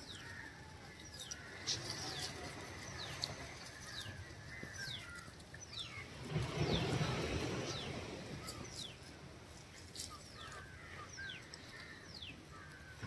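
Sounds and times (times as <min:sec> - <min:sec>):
bird calling: 0:00.0 - 0:09.2, 0:10.0 - 0:13.0.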